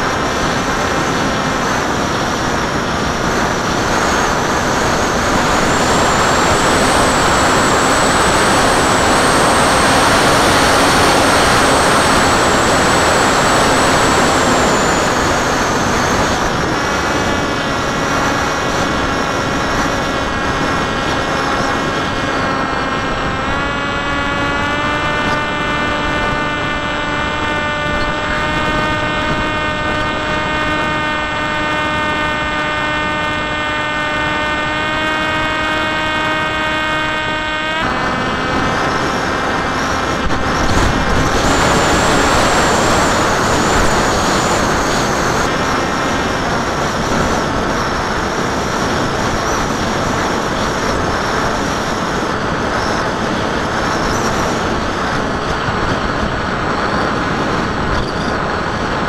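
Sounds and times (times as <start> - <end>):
electric motor and propeller whine: 0.0 - 59.0
rushing wind: 0.0 - 59.0.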